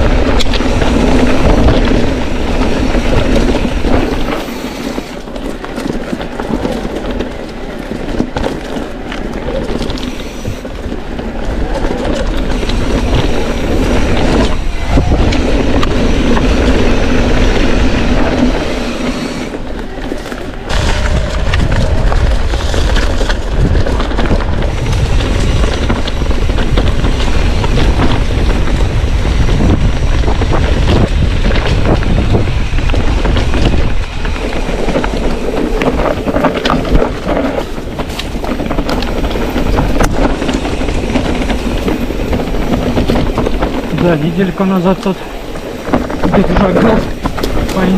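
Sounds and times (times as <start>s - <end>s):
bike rattling: 0.0s - 47.9s
tyres rolling over stones: 0.0s - 47.9s
wind buffeting microphone: 0.0s - 47.9s.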